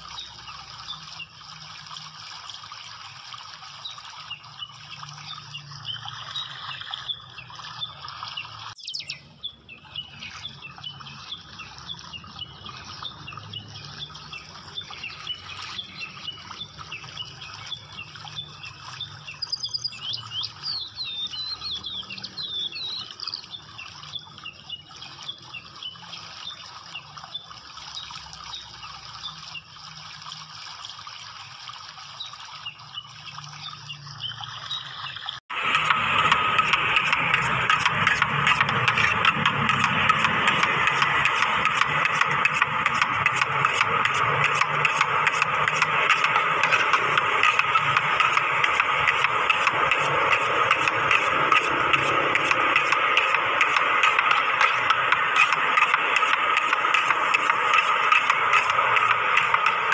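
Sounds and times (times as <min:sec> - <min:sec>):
running water rushing: 0:00.0 - 0:59.9
birds chirping: 0:03.8 - 0:26.6, 0:33.6 - 0:59.9.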